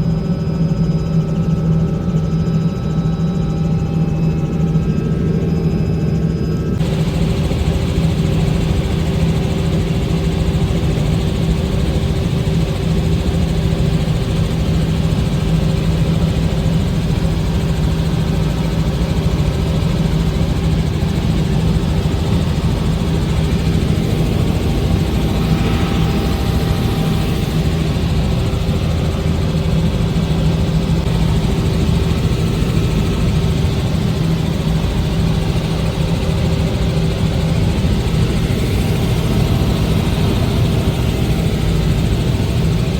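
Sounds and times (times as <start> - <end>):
helicopter drone: 0.0 - 42.9.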